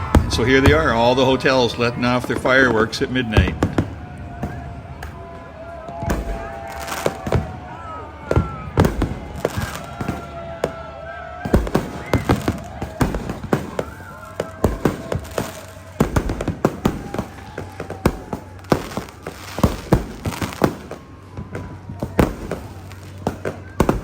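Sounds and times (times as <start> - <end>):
fireworks bangs and cracks: 0.0 - 24.0
fireworks whistling: 0.0 - 24.0.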